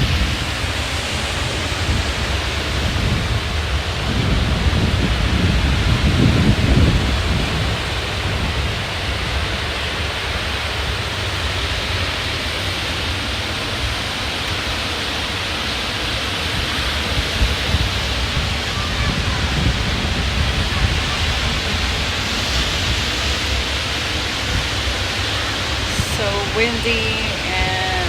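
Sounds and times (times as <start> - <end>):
ocean surf breaking: 0.0 - 28.0
wind rumbling on microphone: 0.0 - 28.0.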